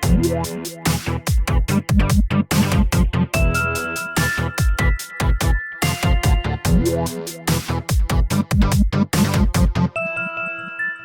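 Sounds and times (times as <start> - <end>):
electronic dance music: 0.0 - 10.7.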